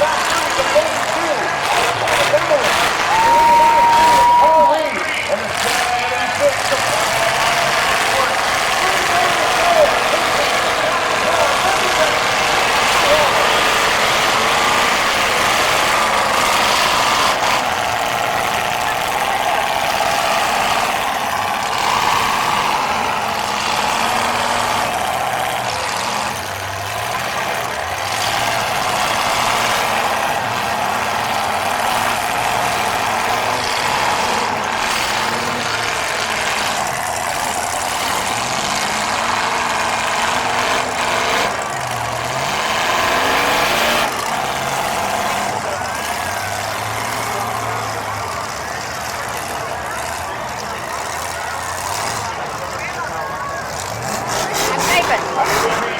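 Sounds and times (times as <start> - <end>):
car engines revving: 0.0 - 55.9
loud mechanical din: 4.5 - 55.9.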